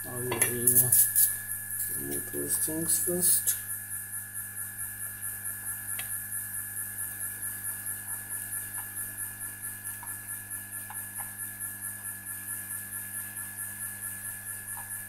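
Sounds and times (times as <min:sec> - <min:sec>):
pulsing high-pitched whine: 0:00.0 - 0:12.8
electrical hum: 0:00.0 - 0:15.0.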